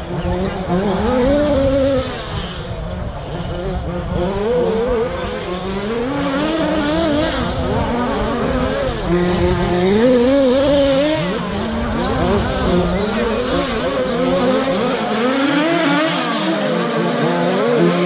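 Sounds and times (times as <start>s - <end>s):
rc car motors revving: 0.0s - 18.0s.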